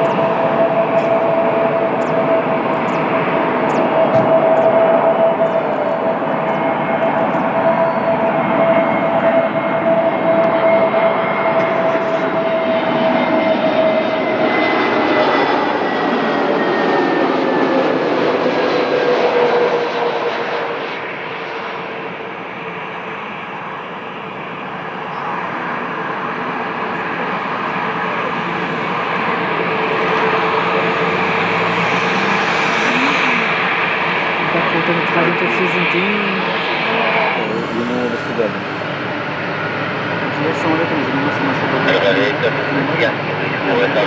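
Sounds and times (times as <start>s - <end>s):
jet engines whining: 0.0s - 44.0s.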